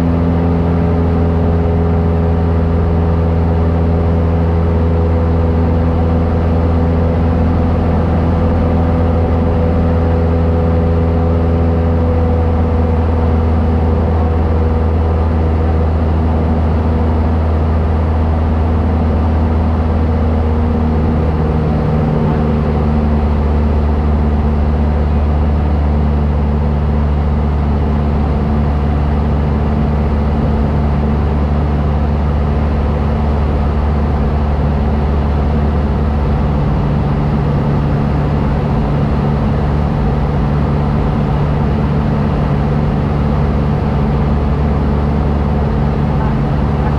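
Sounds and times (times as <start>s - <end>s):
airplane engine and propeller droning: 0.0s - 46.9s.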